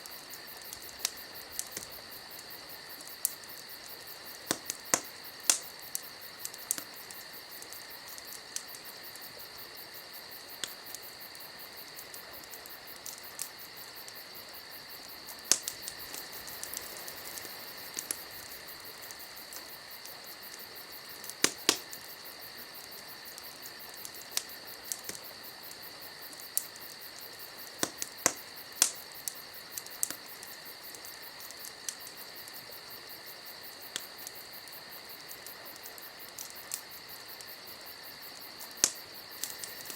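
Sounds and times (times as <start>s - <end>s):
steady high-pitched hiss: 0.0s - 39.9s
wood fire crackling and popping: 0.0s - 39.9s.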